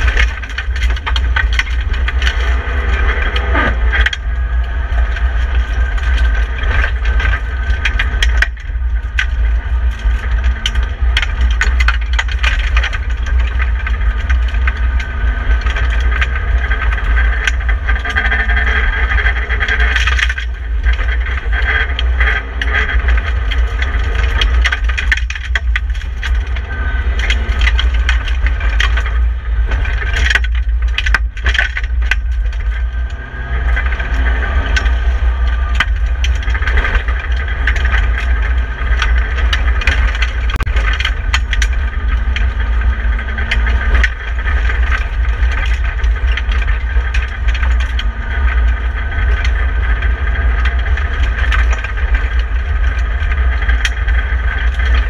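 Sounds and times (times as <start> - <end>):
car engine running hard: 0.0 - 55.0
rattles and knocks in cabin: 0.0 - 55.0
tyres on gravel: 0.0 - 55.0.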